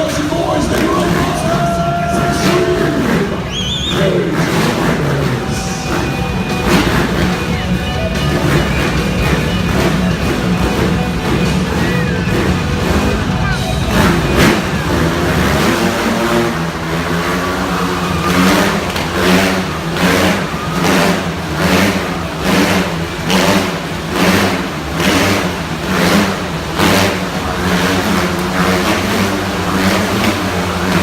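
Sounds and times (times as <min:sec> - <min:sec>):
motorbikes revving hard: 0:00.0 - 0:31.0.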